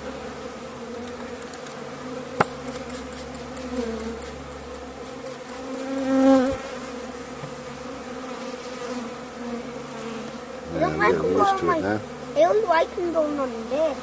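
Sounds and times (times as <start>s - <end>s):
bee buzzing past: 0.0s - 14.0s
bees humming: 0.0s - 14.0s.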